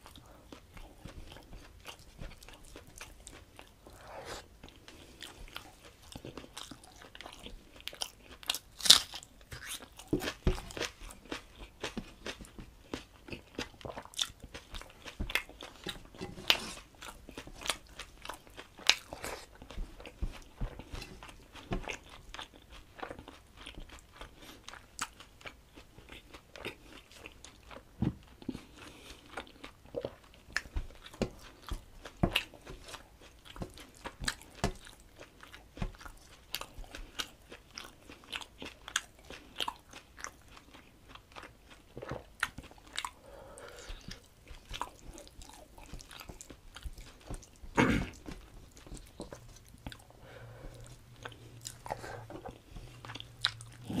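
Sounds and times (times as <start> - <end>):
chewing food: 0.0 - 54.0.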